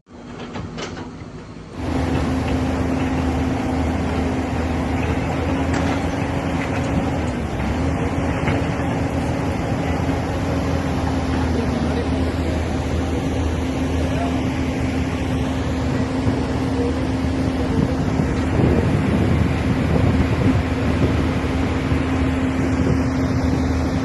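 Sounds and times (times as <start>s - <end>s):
heavy machinery engine running: 0.1s - 24.0s.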